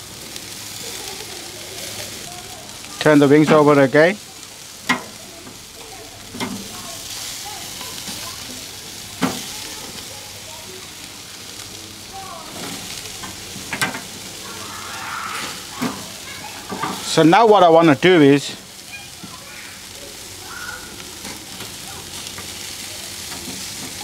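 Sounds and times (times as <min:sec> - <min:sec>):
chicken wings sizzling on grill: 0:00.0 - 0:24.0.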